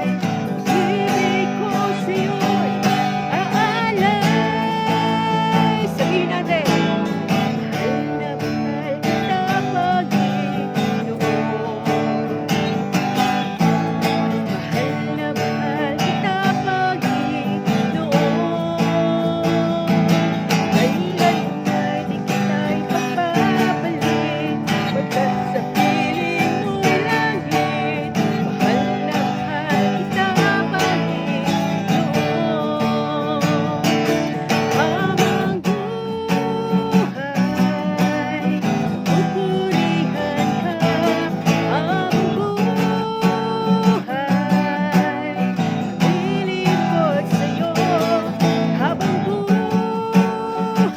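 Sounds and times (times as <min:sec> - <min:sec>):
person singing: 0:00.0 - 0:50.9
strummed acoustic guitar music: 0:00.0 - 0:50.9.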